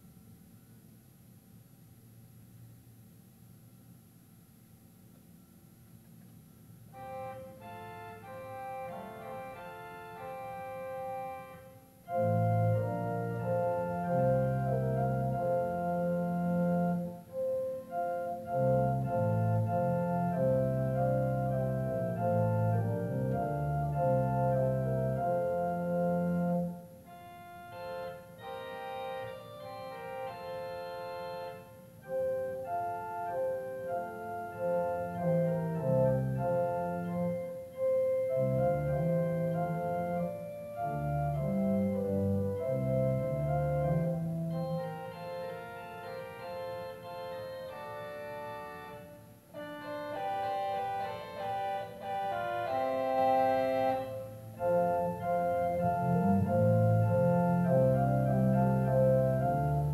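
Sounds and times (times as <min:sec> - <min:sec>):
church organ fanfare: 0:07.0 - 0:59.9.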